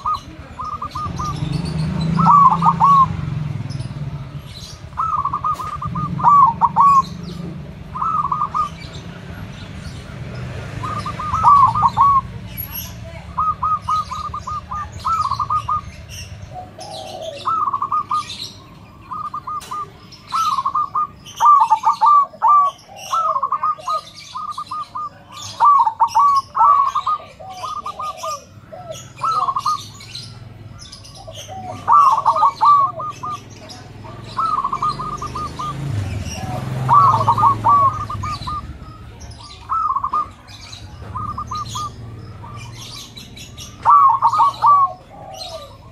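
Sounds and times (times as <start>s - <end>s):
dove cooing trills: 0.0s - 45.9s
high bird chirps: 0.0s - 45.9s.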